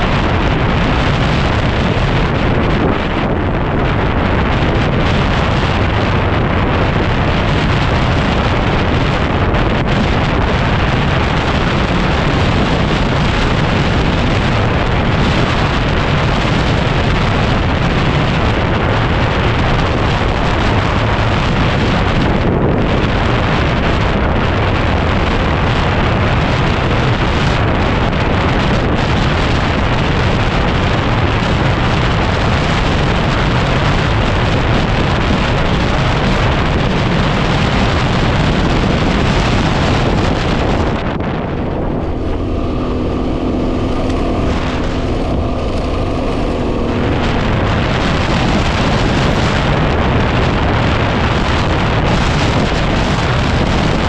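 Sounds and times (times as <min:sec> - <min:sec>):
motorcycle running: 0:00.0 - 0:54.0
wind buffeting microphone: 0:00.0 - 0:54.0.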